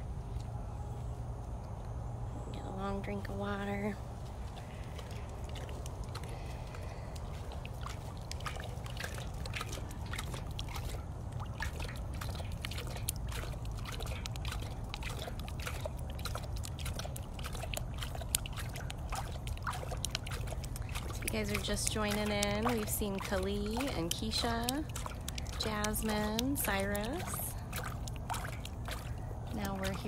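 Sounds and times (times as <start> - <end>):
lion lapping water: 0.0 - 30.0
steady low rumble: 0.0 - 30.0.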